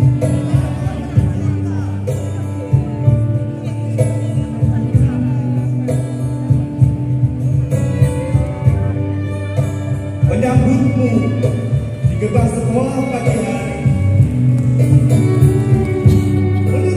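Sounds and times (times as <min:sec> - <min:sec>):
live band music over loudspeakers: 0:00.0 - 0:16.9.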